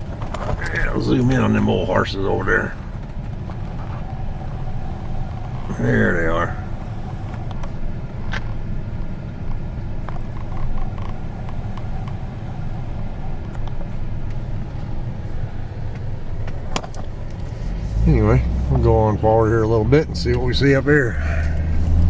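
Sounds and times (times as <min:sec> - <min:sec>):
faint clicks and creaks: 0:00.0 - 0:18.9
vehicle engine rumbling: 0:00.0 - 0:22.0.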